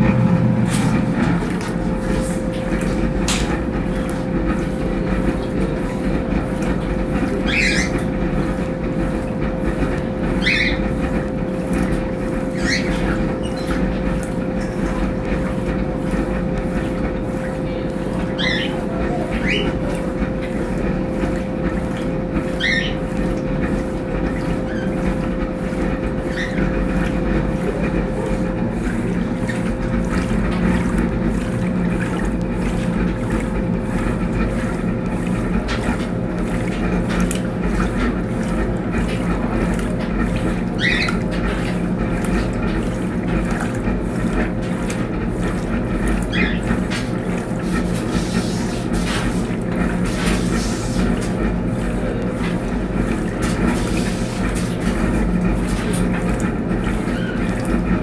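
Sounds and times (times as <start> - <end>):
washing machine motor and drum hum: 0.0 - 58.0.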